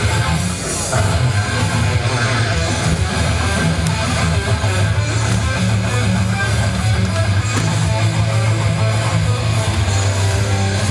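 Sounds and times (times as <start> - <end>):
guitar background music: 0.0 - 10.9.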